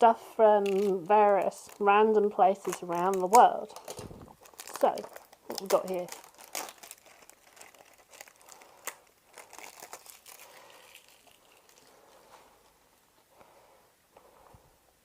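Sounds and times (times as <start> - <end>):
packaging crinkling and rustling: 0.5 - 13.1.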